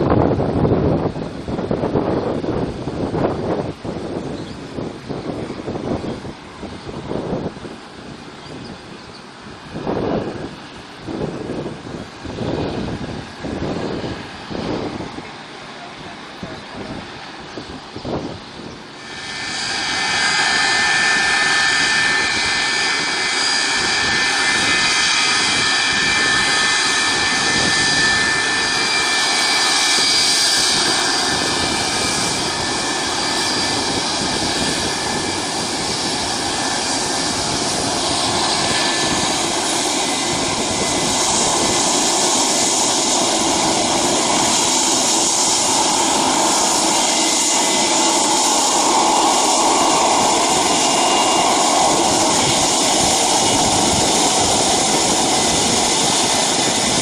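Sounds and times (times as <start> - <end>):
high jet whine: 0.0 - 57.0
jet engine rush: 0.0 - 57.0.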